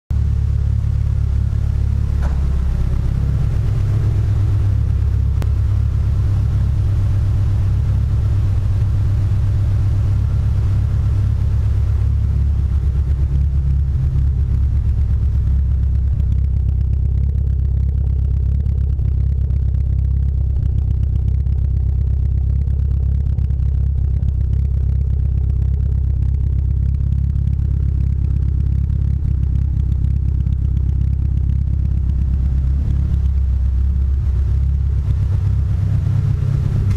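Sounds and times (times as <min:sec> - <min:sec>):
car engine uneven rumble: 0:00.1 - 0:36.9.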